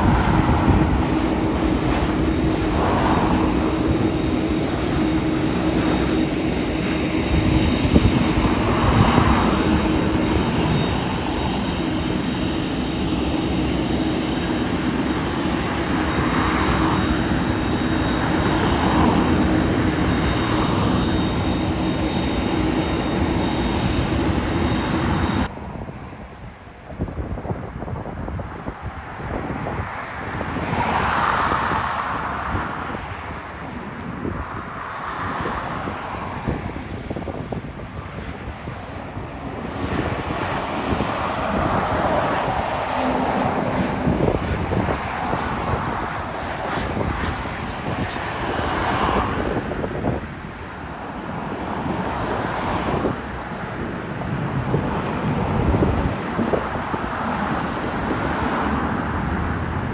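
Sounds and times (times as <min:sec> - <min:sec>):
jet engines roaring with whine: 0:00.0 - 0:59.9.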